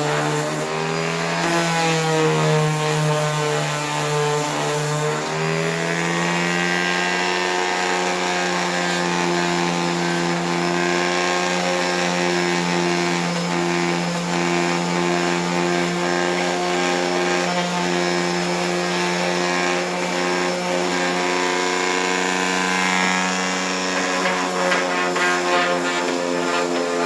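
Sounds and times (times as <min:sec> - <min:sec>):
power tool humming on wood: 0:00.0 - 0:27.0.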